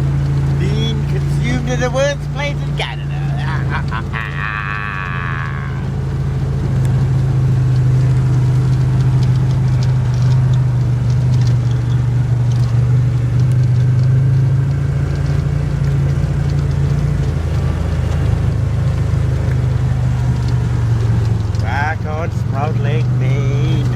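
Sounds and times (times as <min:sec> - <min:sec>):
quad engine humming: 0:00.0 - 0:23.9.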